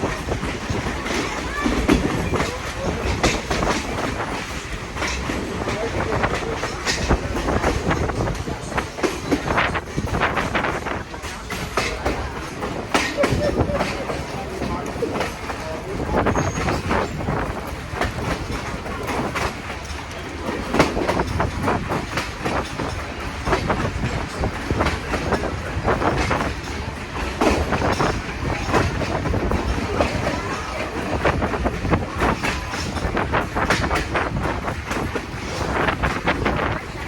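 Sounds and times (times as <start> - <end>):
train rumbling on track: 0.0 - 37.0
wheels clacking and knocking: 0.0 - 37.0.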